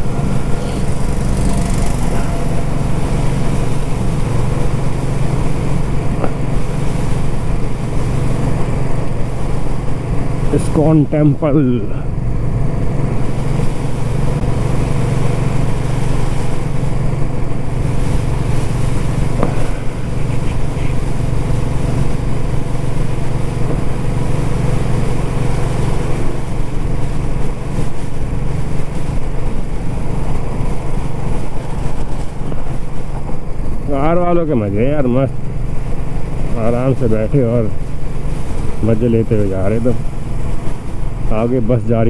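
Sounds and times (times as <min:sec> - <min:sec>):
motorcycle engine cruising: 0:00.0 - 0:42.0
road noise: 0:00.0 - 0:42.0.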